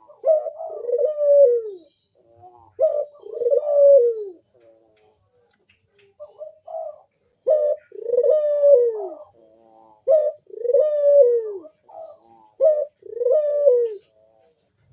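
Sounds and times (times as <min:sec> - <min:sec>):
dove cooing: 0:00.0 - 0:05.5, 0:06.1 - 0:14.9.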